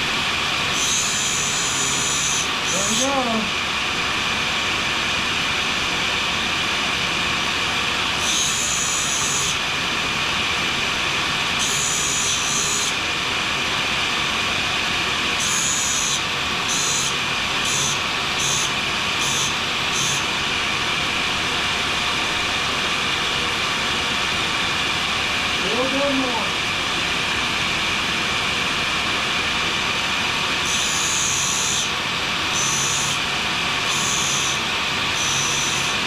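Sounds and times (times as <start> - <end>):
grinder running: 0.0 - 3.9, 7.2 - 36.0.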